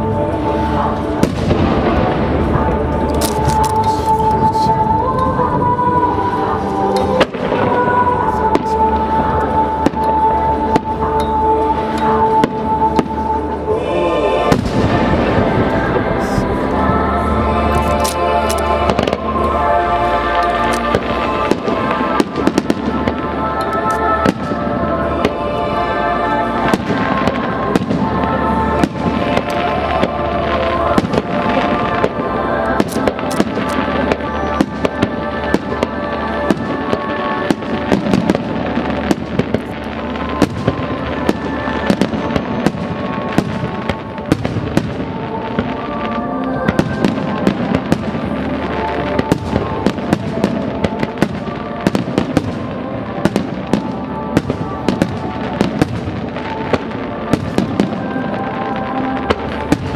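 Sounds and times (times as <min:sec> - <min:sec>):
fireworks bangs and crackles: 0:00.0 - 0:13.7, 0:14.4 - 0:59.9
music playing: 0:00.0 - 0:59.9.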